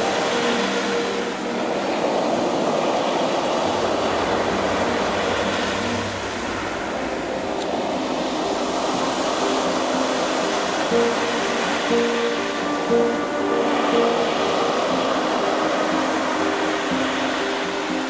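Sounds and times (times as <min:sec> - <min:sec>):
waves breaking on pebble beach: 0:00.0 - 0:18.0.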